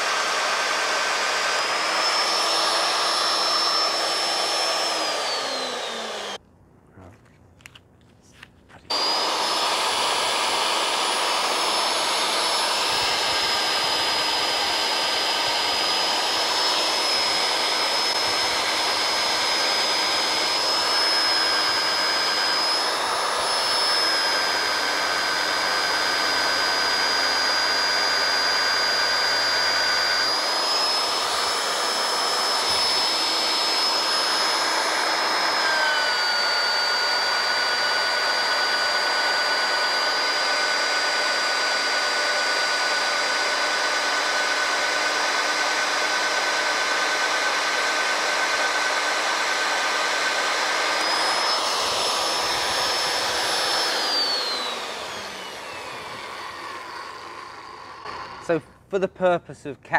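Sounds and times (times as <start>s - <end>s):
magnetic drill boring steel: 0.0s - 6.4s, 8.9s - 58.6s.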